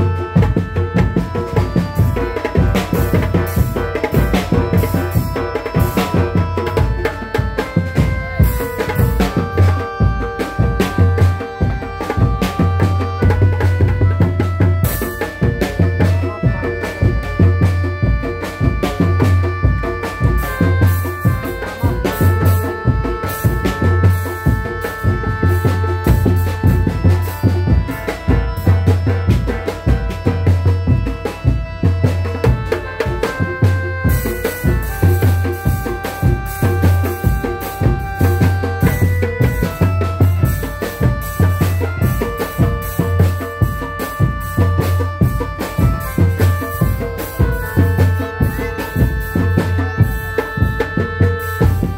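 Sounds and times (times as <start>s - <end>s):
deep regular drum beat: 0.0s - 51.9s
fast dense drumming: 0.0s - 51.9s
melody of long held notes: 0.0s - 51.9s.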